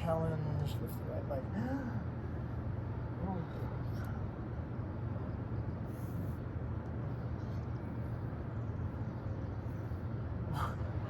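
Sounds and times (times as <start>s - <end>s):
distant traffic: 0.0s - 11.0s.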